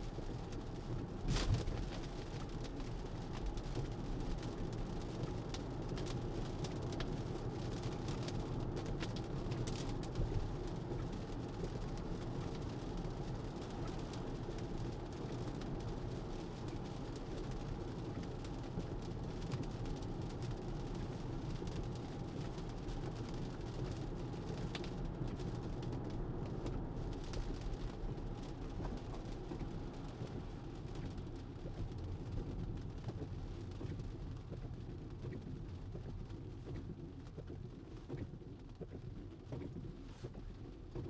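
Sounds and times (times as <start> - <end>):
faint ticks of rain: 0.0 - 41.0.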